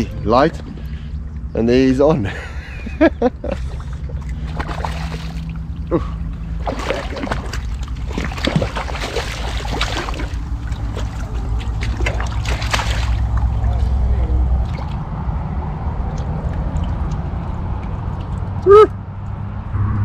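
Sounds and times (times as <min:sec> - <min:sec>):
water splashing and sloshing: 0:00.0 - 0:19.6
steady low hum: 0:00.0 - 0:20.0.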